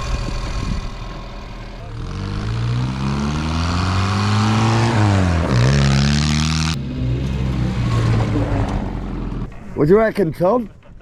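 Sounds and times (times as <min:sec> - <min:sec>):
car engine accelerating: 0:00.0 - 0:09.5.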